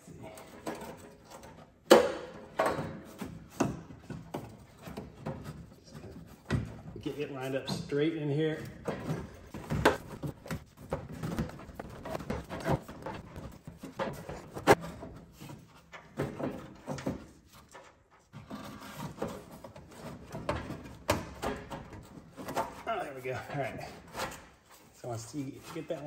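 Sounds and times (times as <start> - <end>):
metal pipes knocking and scraping: 0.0 - 26.0.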